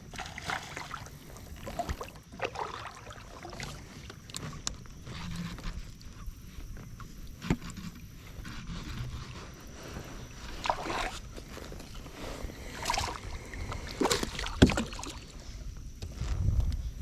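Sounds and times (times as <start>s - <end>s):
light water splashing: 0.0s - 15.6s.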